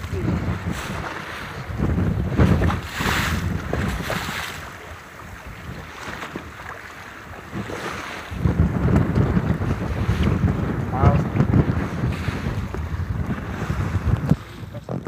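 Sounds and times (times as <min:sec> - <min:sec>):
sea waves washing around raft: 0:00.0 - 0:15.0
wind buffeting microphone: 0:00.0 - 0:15.0.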